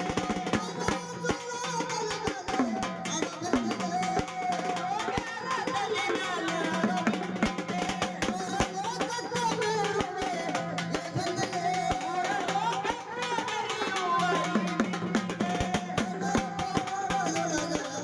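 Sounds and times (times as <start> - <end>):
drum strokes: 0.0 - 18.0.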